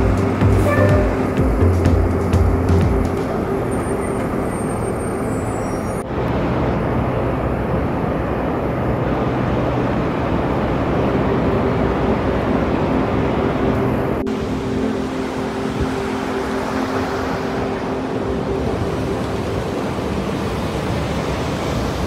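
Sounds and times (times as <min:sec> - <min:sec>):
urban traffic rumble: 0:00.0 - 0:22.0.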